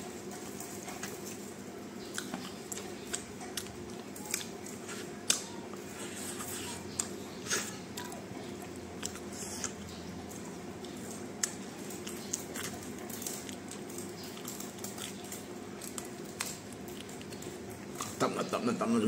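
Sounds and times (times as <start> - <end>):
man chewing food: 0.0 - 18.2.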